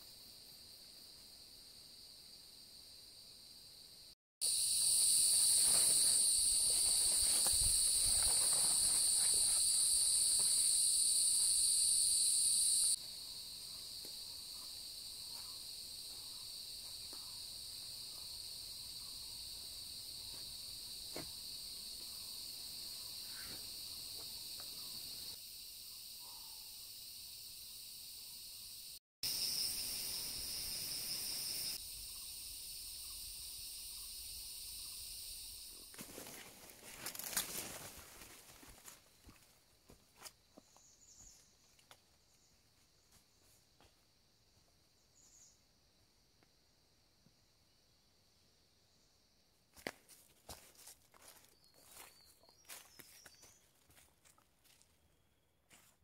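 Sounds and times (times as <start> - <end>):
insect chorus drone: 0.0 - 55.9.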